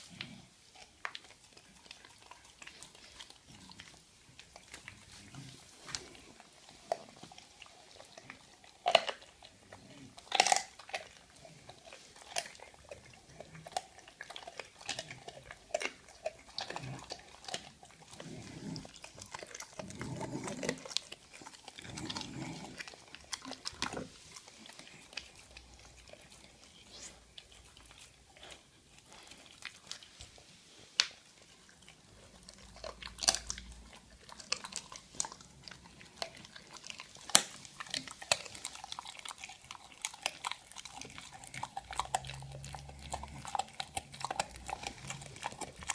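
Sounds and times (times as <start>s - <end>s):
dog chewing and crunching bones: 0.0s - 45.9s.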